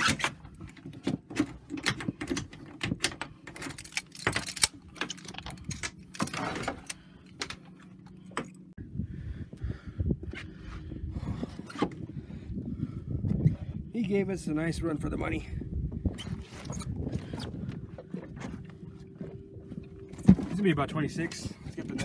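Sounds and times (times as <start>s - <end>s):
low steady hum: 0.2s - 22.0s.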